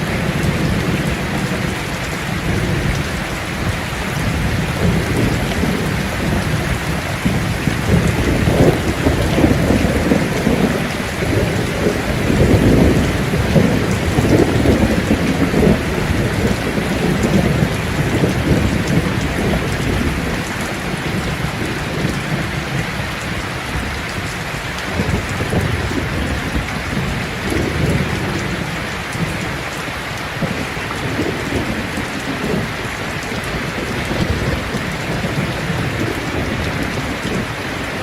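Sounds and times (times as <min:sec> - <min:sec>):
heavy rainfall: 0:00.0 - 0:38.0.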